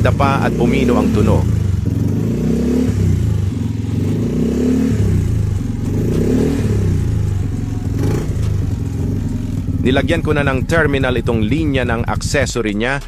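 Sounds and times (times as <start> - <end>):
scooter engine idling and revving: 0.0 - 13.0.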